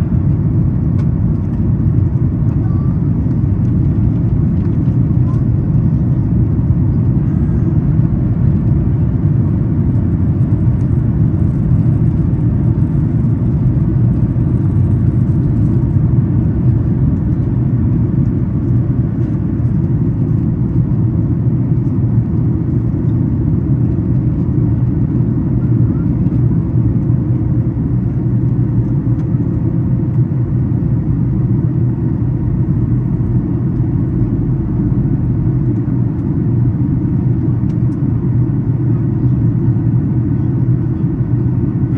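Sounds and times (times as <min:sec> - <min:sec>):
jet engines low rumble: 0:00.0 - 0:41.9.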